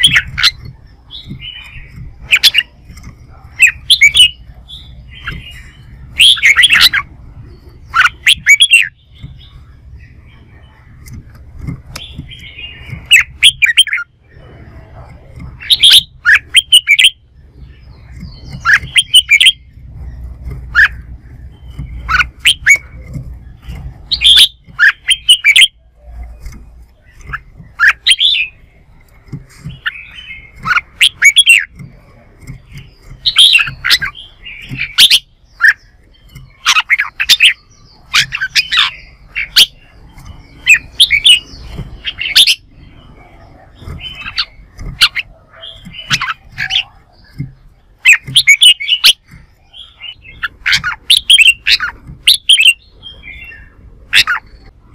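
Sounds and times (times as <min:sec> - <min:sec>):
bulbul chirping song: 0:00.0 - 0:54.9.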